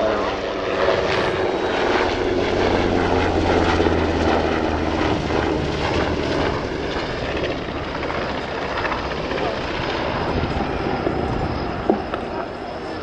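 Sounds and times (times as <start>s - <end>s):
helicopter rotor and turbines: 0.0s - 13.0s.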